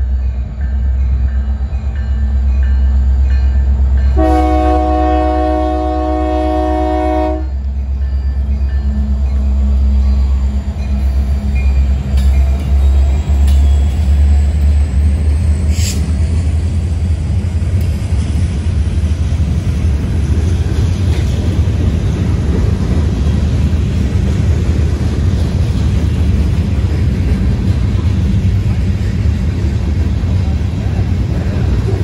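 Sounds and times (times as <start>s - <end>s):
freight train rumbling: 0.0s - 32.0s.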